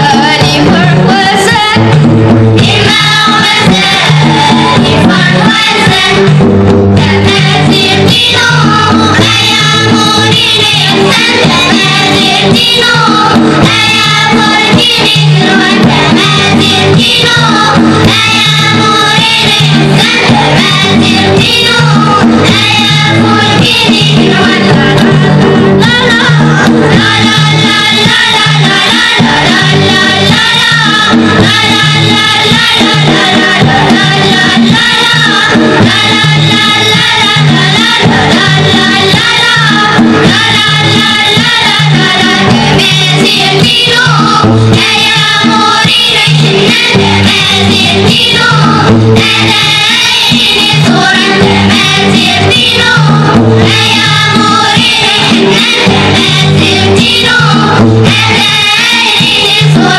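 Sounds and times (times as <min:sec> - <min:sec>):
children's choir singing: 0:00.0 - 0:02.0, 0:02.6 - 0:59.9
banjo: 0:00.0 - 0:59.9
hand drum beat: 0:00.0 - 0:59.9.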